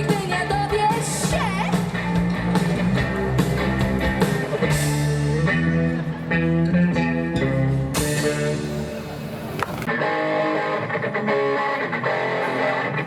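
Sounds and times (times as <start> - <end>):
lead guitar: 0.0 - 13.0
live rock band playing: 0.0 - 13.0.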